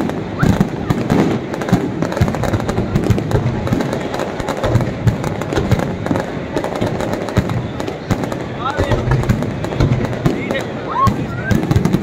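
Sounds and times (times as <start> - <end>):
deep firework thuds: 0.0 - 12.0
fireworks cracking and popping: 0.0 - 12.0.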